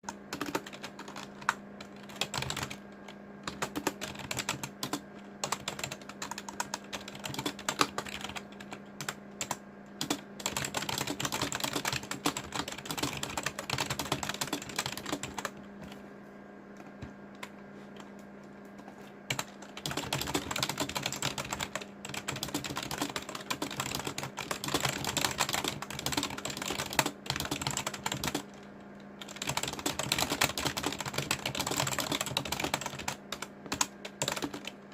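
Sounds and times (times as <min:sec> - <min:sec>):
steady low hum: 0:00.0 - 0:34.9
keyboard typing: 0:00.1 - 0:16.0, 0:16.8 - 0:34.9.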